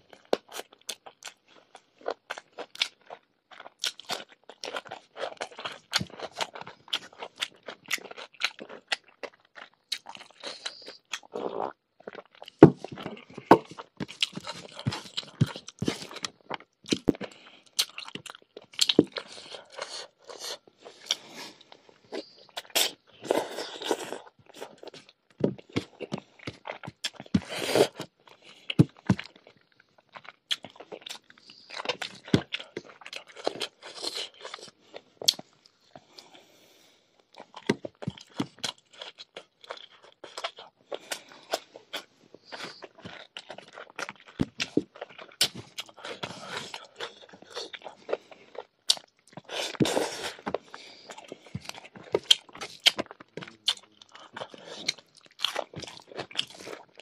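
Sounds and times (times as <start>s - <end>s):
chewing with crunches: 0.0s - 57.0s.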